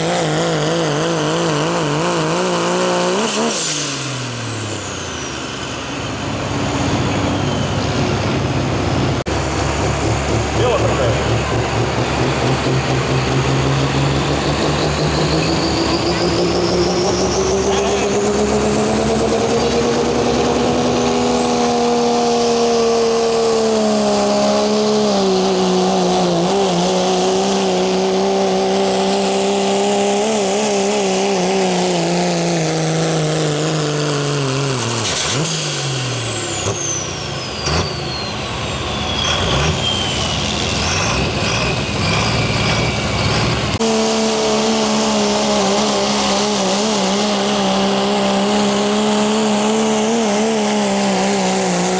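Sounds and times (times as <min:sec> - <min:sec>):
diesel truck engine at full throttle: 0:00.0 - 0:51.9
diesel truck engine starting: 0:00.0 - 0:51.9.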